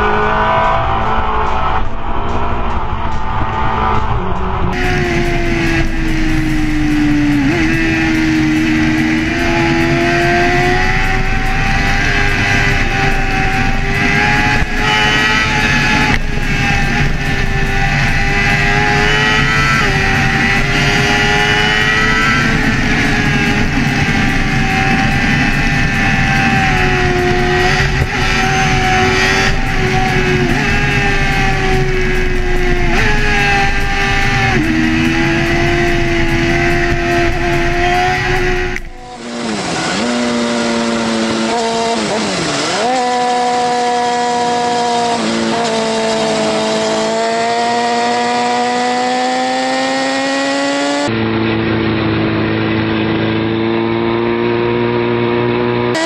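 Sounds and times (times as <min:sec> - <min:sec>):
motorcycle engine at high revs: 0:00.0 - 0:01.9, 0:02.6 - 0:56.0.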